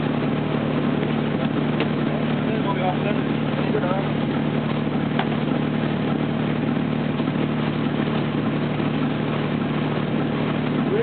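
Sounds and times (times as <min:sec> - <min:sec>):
boat diesel engine hum: 0:00.0 - 0:11.0.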